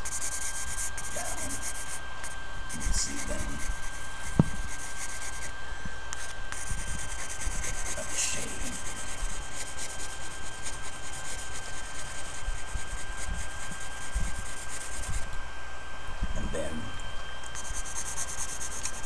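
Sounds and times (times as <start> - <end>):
pencil scratching on paper: 0.0 - 5.5, 6.5 - 15.2, 17.6 - 19.0.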